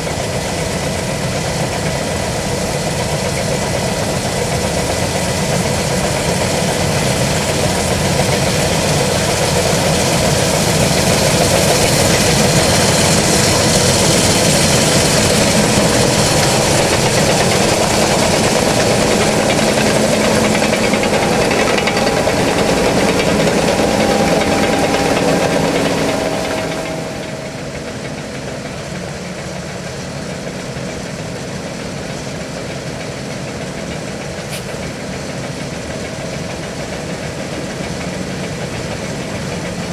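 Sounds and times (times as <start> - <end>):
combine harvester engine and machinery: 0.0 - 39.9.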